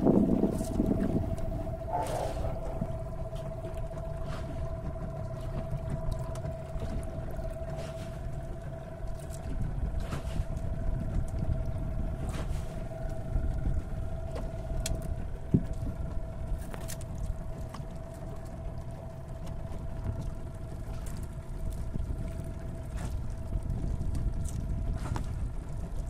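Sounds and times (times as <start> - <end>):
steady hum: 0.0 - 26.0
wind and water rumble: 0.0 - 26.0.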